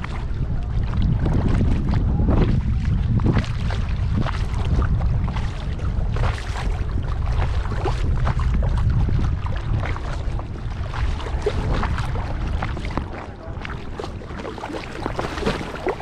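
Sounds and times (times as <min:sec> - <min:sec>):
paddle splashing in water: 0:00.0 - 0:16.0
steady low rumble: 0:00.0 - 0:16.0.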